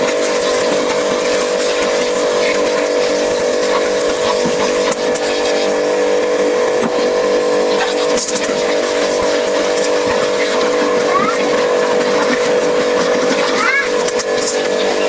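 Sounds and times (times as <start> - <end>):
motor humming steadily: 0.0 - 15.0.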